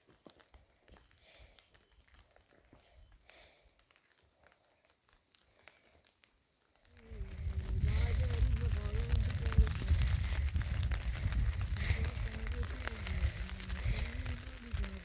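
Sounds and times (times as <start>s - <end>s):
small clicks and ticks: 0.0s - 15.0s.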